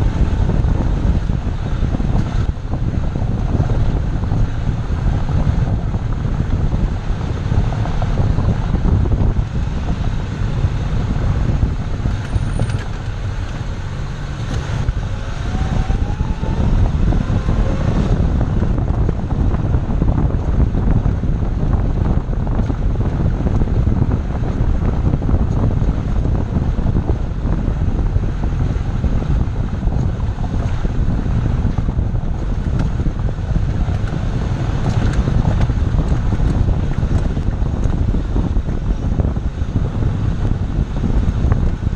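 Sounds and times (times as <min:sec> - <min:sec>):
road rumble: 0:00.0 - 0:41.9
wind buffeting microphone: 0:00.0 - 0:41.9.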